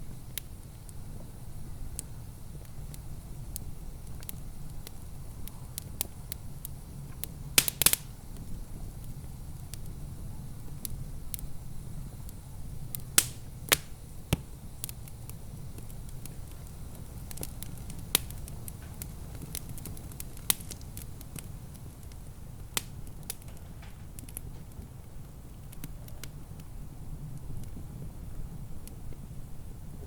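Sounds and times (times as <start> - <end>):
low rumble of flames: 0.0 - 30.0
wood fire crackling: 0.0 - 30.0
sharp pops of fire: 0.1 - 29.0.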